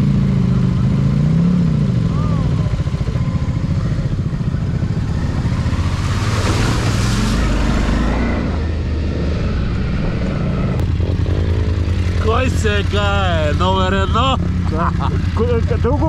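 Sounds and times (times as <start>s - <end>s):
motorcycle engine running: 0.0s - 7.0s, 7.6s - 16.0s
rush of noise: 2.0s - 15.8s.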